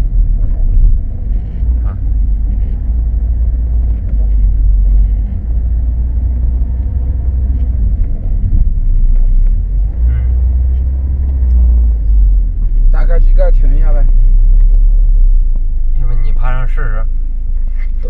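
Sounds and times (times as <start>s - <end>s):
car driving road rumble: 0.0s - 18.0s.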